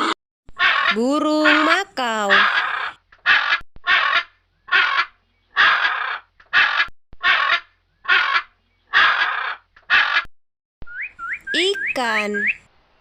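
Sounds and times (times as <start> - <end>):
macaw squawking: 0.0 - 10.3, 10.9 - 12.6.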